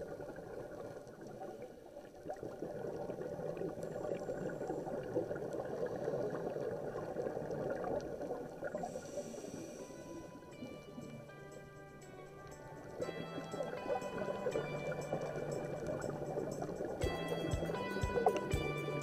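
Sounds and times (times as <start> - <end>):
underwater hiss with crackle: 0.0 - 19.0.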